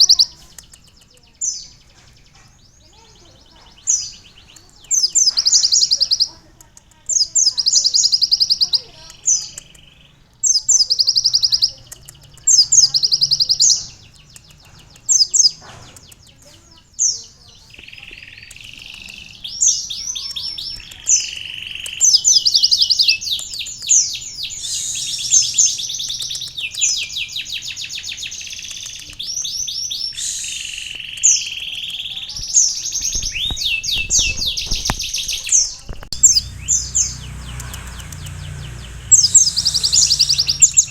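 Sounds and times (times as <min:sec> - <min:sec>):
bird singing rapid trills: 0:00.0 - 0:40.9.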